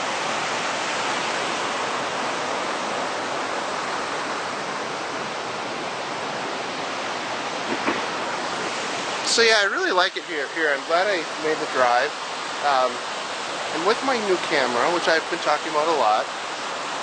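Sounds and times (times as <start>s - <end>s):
water rushing over waterfall: 0.0s - 17.0s.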